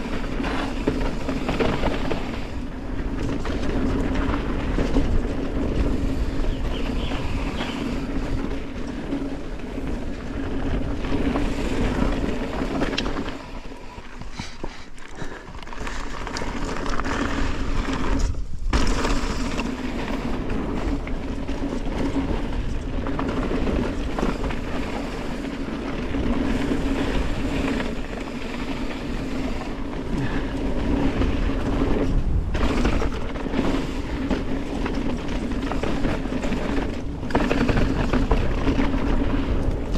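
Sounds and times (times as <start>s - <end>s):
bike rattling over bumps: 0.0s - 39.9s
tyres rumbling on dirt and gravel: 0.0s - 39.9s.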